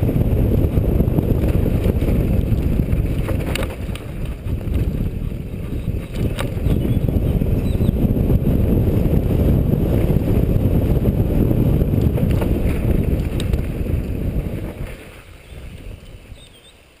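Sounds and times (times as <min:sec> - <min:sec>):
wind buffeting microphone: 0:00.0 - 0:16.9
mountain bike rumble and rattle: 0:00.0 - 0:17.0.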